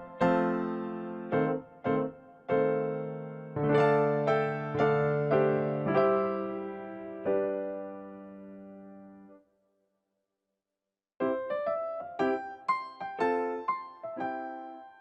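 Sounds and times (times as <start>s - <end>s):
slow piano melody: 0.0s - 9.4s, 11.2s - 15.0s.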